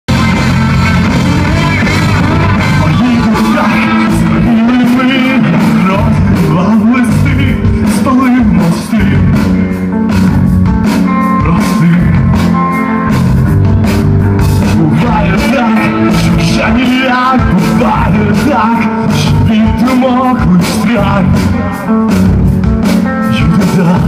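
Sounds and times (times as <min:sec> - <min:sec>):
person singing: 0:00.1 - 0:09.9, 0:11.1 - 0:13.1, 0:14.6 - 0:22.2, 0:23.0 - 0:24.0
live rock band playing: 0:00.1 - 0:24.0.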